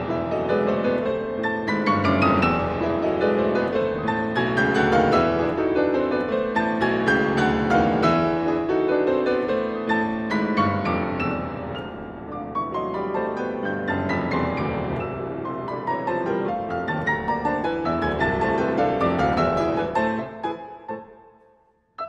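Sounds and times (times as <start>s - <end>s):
grand piano fast passagework: 0.0s - 22.0s.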